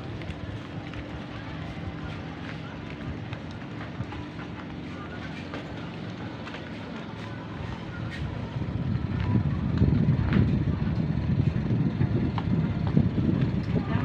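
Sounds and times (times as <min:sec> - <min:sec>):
speedboat engines droning: 0:00.0 - 0:14.0.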